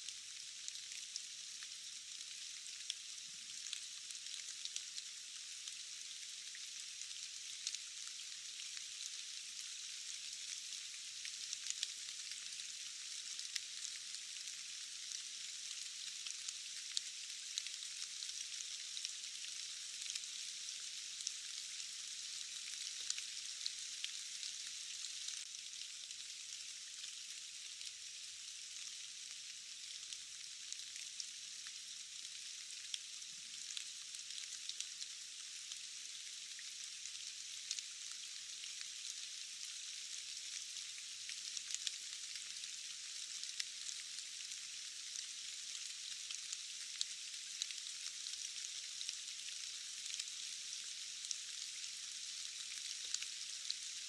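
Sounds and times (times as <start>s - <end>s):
rain hiss with drop ticks: 0.0s - 54.0s.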